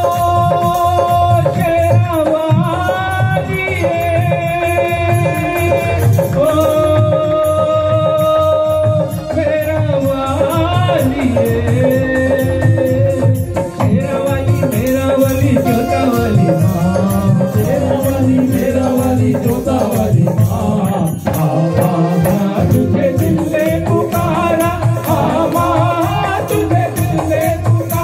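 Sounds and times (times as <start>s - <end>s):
man singing: 0.0s - 28.0s
percussion beat: 0.0s - 28.0s.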